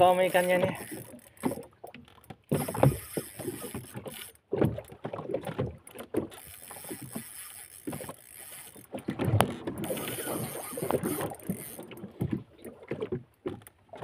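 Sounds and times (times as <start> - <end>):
water splashing against boat hull: 0.0 - 14.0.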